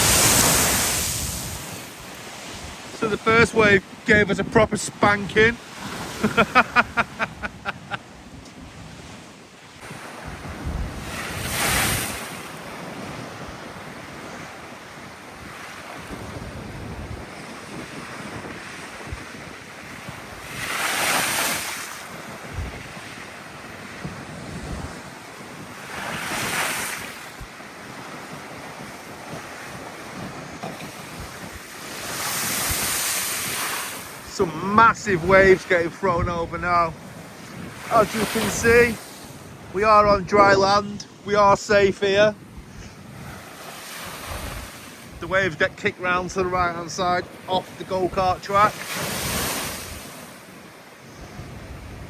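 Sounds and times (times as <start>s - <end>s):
sea waves crashing: 0.0s - 52.0s
wind buffeting microphone: 0.0s - 52.0s.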